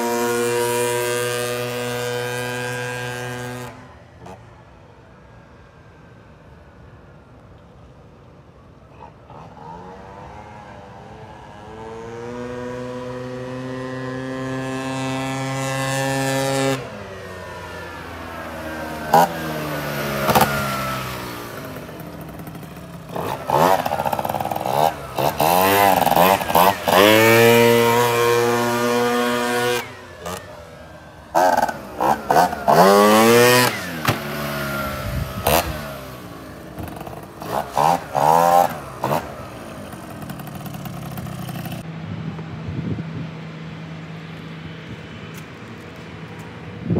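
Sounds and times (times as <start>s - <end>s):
scooter engine revving: 0.0s - 4.6s, 9.0s - 42.0s.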